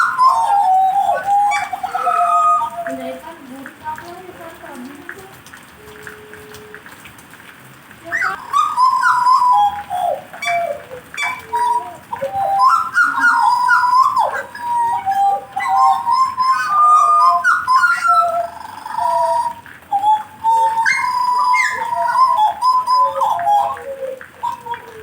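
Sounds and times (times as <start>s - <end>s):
songbird warbling: 0.0s - 4.2s, 8.0s - 25.0s.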